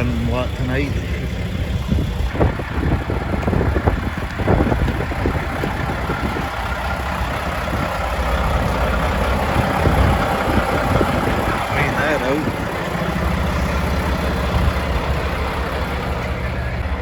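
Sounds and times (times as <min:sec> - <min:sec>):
cooling fan running: 0:00.0 - 0:17.0
diesel engine idling: 0:00.0 - 0:17.0.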